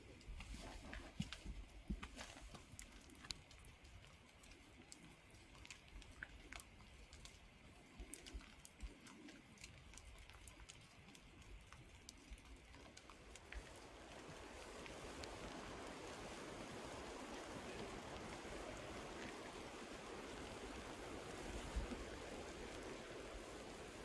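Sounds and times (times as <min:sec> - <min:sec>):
rain dripping ticks: 0:00.0 - 0:24.0.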